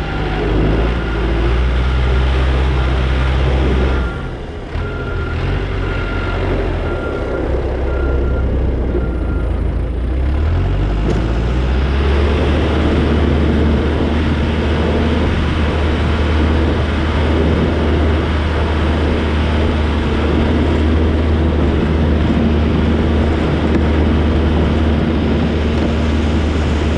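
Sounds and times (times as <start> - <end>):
diesel engine running and revving: 0.0 - 26.9.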